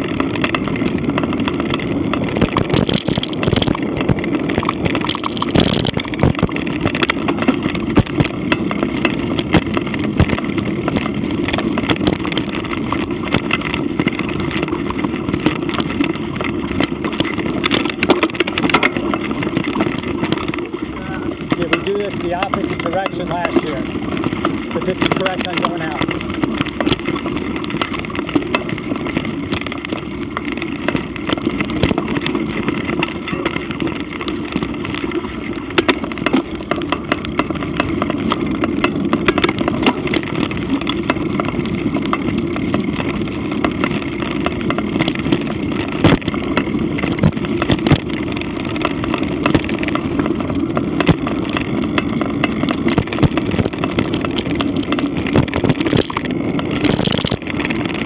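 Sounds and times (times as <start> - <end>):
bike rattling and knocking: 0.0 - 58.0
bike tyres rumbling on dirt: 0.0 - 58.0
wind: 0.0 - 58.0.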